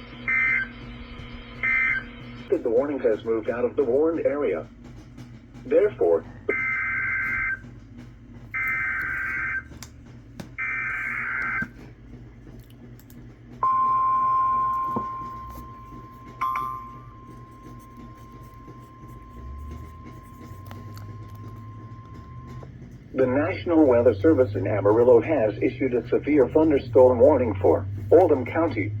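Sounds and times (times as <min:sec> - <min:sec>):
steady high warning tone: 0:00.0 - 0:09.8, 0:10.6 - 0:12.0, 0:13.5 - 0:29.0.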